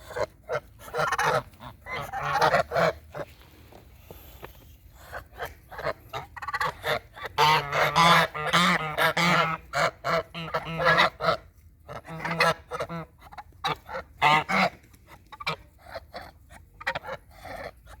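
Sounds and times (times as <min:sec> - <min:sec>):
farm birds calling: 0:00.0 - 0:18.0.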